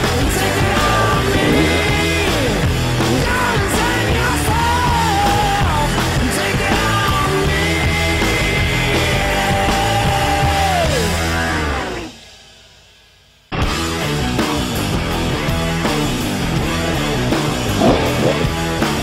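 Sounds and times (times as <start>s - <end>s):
rock music with singing: 0.0s - 12.7s, 13.5s - 19.0s.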